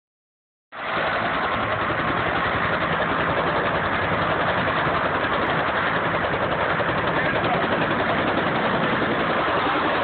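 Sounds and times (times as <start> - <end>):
helicopter rotor and engine: 0.8 - 10.0.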